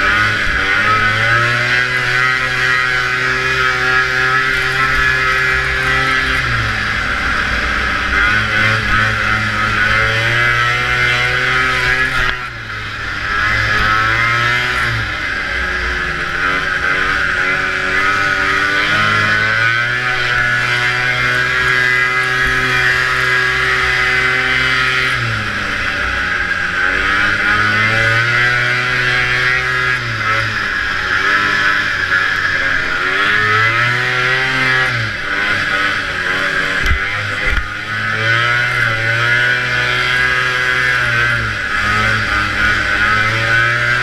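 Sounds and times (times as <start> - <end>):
snowmobile engine running hard: 0.0 - 44.0.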